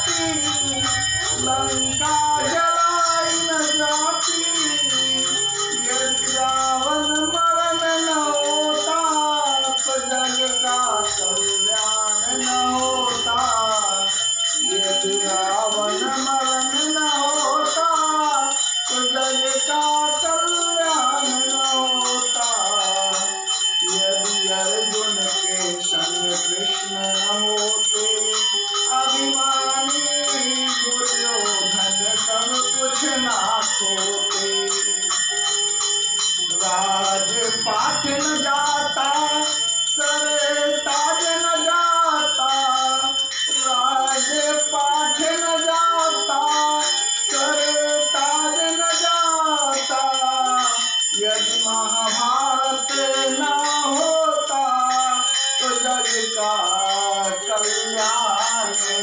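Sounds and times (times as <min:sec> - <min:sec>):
hand cymbals ringing: 0:00.0 - 0:59.0
man singing: 0:00.0 - 0:59.0.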